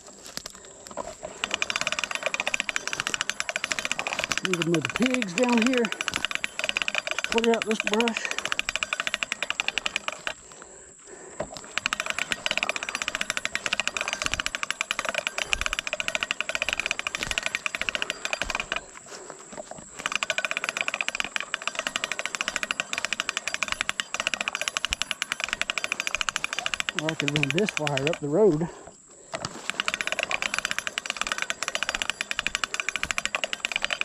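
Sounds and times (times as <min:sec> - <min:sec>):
insects buzzing rattle: 0:00.0 - 0:34.0.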